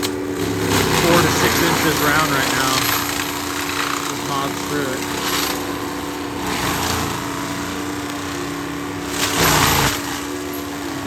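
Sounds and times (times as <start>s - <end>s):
mulching head shredding stems: 0.0s - 11.0s
track loader running: 0.0s - 11.0s.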